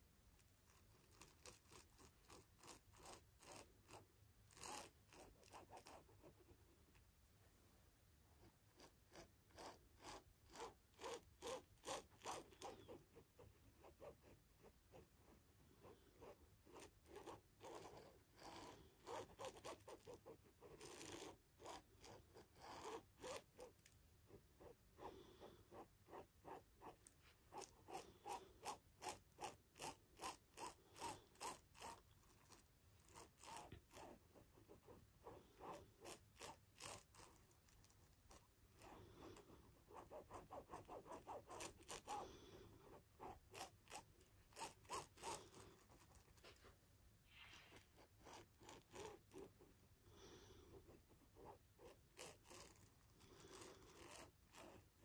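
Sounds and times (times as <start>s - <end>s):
ballpoint pen scratching on cloth: 0.0s - 7.1s, 8.2s - 55.0s.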